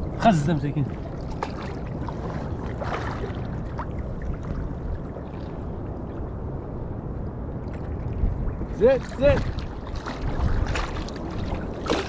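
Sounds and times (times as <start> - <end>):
small waves lapping and sloshing: 0.0 - 12.0.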